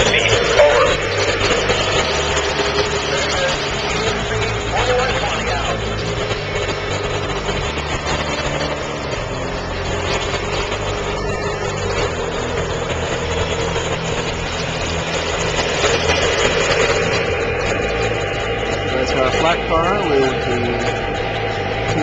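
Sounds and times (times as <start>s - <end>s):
model train engine rumble: 0.0s - 22.0s
train rolling on track: 0.0s - 22.0s.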